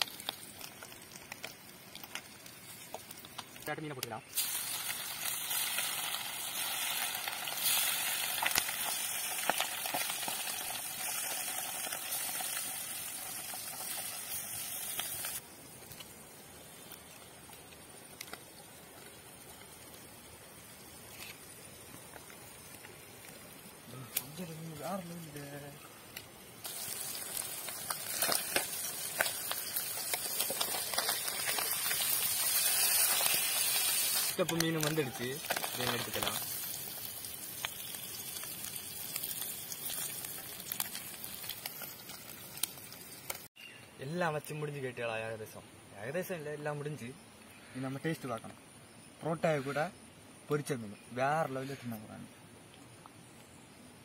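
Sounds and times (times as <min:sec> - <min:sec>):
oil popping: 0:00.0 - 0:43.5
fish sizzling in oil: 0:00.0 - 0:45.2.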